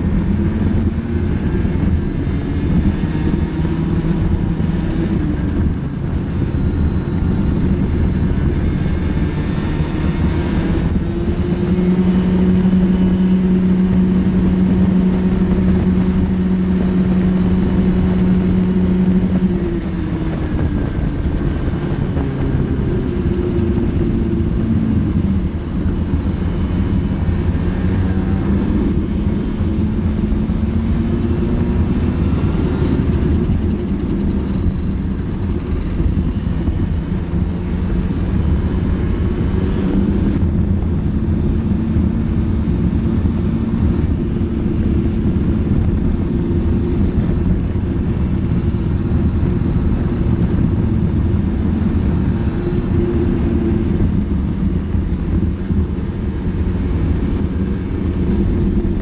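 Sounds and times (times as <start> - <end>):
racing kart engine revving: 0.0 - 59.0.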